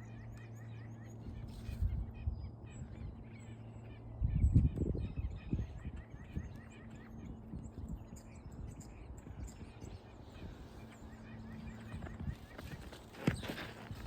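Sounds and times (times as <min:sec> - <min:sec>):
low rumble with faint hum: 0:00.0 - 0:14.0
small birds chirping: 0:00.0 - 0:14.0.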